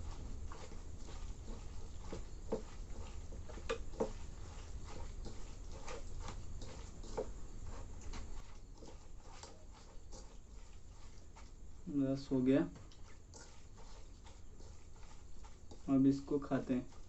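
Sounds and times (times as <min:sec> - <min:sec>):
soaked rice mixed in a bowl: 0:00.0 - 0:17.0.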